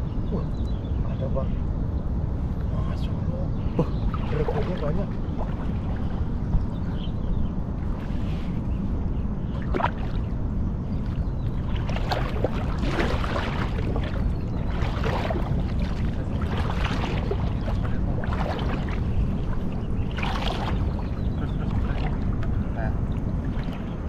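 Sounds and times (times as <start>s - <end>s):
water splashing and sloshing: 3.7s - 24.0s.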